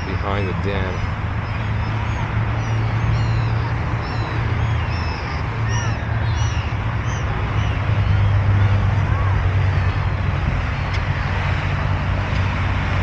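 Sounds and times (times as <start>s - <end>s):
gulls calling: 0.0s - 13.0s
traffic rumble: 0.0s - 13.0s
wind: 0.0s - 13.0s.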